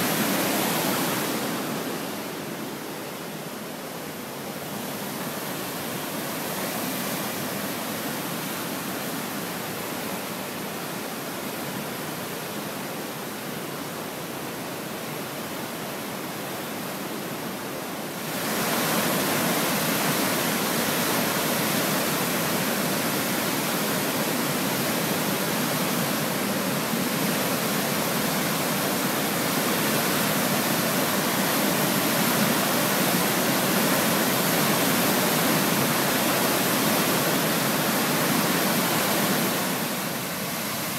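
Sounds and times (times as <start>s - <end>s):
whitewater rushing: 0.0s - 40.9s.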